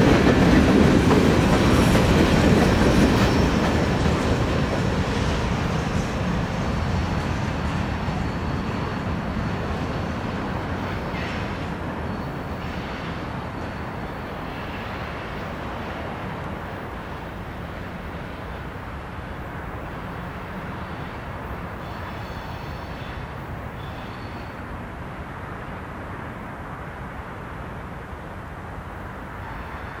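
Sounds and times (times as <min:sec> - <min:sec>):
distant freight train rumble: 0:00.0 - 0:30.0.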